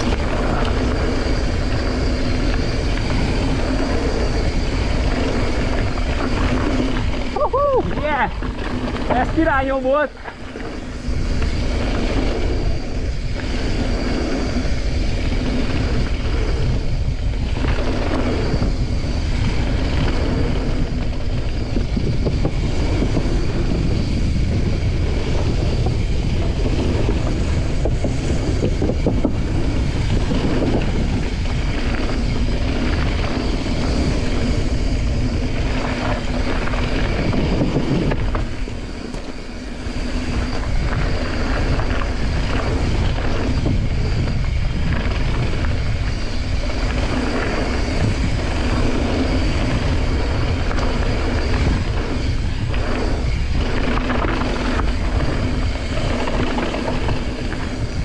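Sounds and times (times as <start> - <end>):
bike rattle: 0.0 - 58.0
bike tyres on gravel: 0.0 - 58.0
wind buffeting microphone: 0.0 - 58.0.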